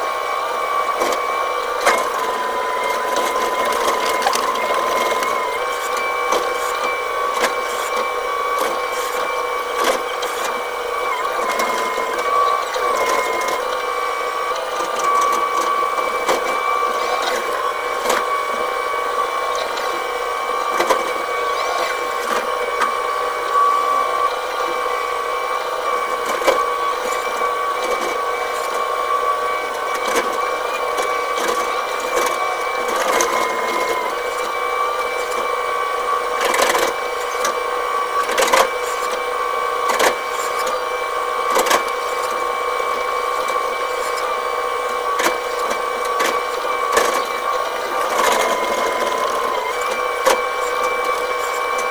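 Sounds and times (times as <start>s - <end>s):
excavator machine whine: 0.0s - 51.9s.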